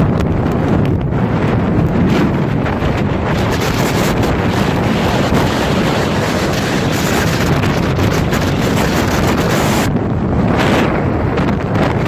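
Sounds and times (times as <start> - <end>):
wind gusting across microphone: 0.0 - 12.0.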